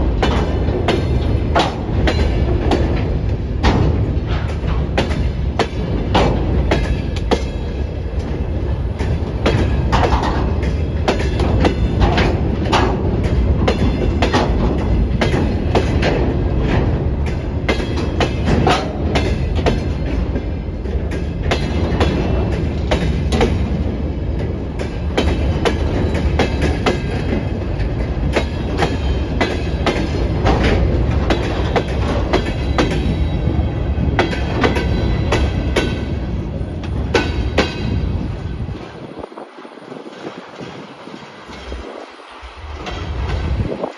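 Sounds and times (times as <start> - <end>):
freight wagons rumbling: 0.0 - 43.9
wheels clicking over rail joints: 0.0 - 43.9.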